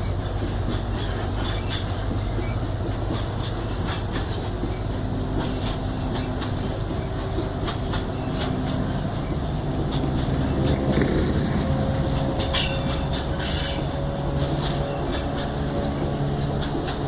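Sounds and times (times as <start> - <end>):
freight train rolling past: 0.0 - 17.0
wheels clicking over rail joints: 0.0 - 17.0.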